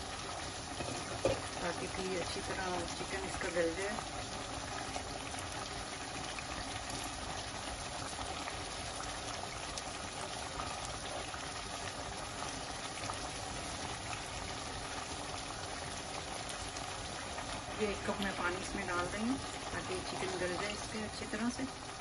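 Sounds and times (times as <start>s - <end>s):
curry bubbling and sizzling in pot: 0.0s - 22.0s.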